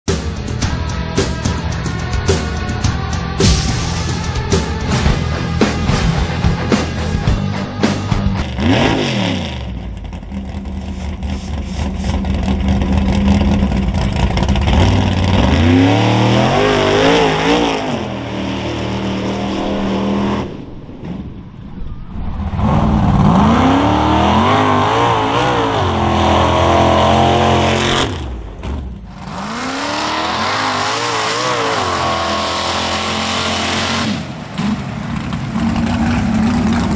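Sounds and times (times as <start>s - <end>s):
truck engines revving hard: 0.1s - 21.4s, 22.2s - 36.9s.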